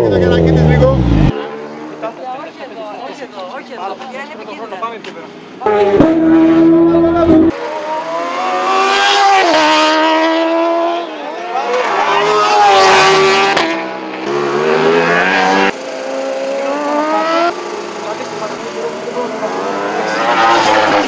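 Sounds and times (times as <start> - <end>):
motorbike engines revving: 0.0 - 4.0, 5.3 - 21.0.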